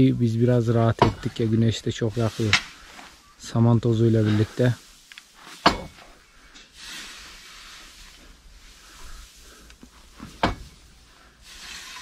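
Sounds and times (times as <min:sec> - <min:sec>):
straw rustling swishes: 0:01.3 - 0:12.0.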